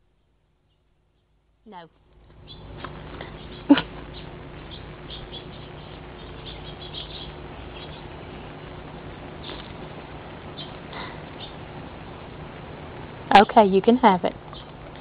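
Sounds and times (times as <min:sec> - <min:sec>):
low hum: 0:00.0 - 0:15.0
small birds chirping faintly: 0:00.0 - 0:15.0.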